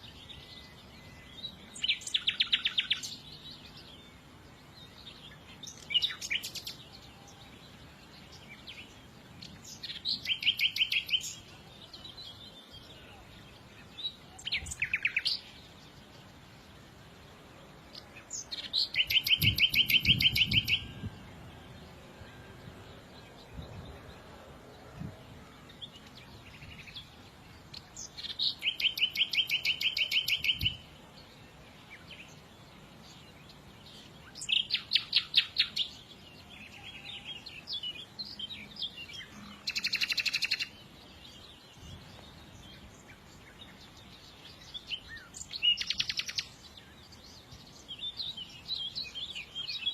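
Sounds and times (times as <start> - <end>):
soft bird chirps: 0.0 - 49.9.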